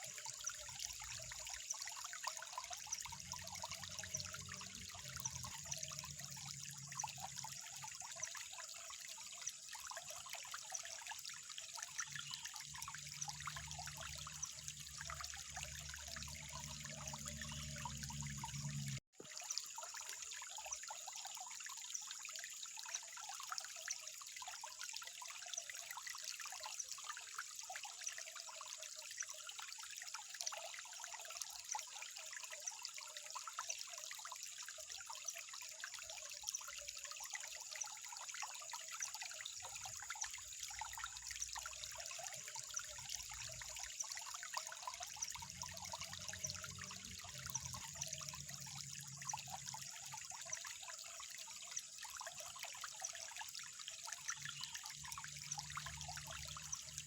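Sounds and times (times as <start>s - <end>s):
water trickling in a stream: 0.0s - 57.0s.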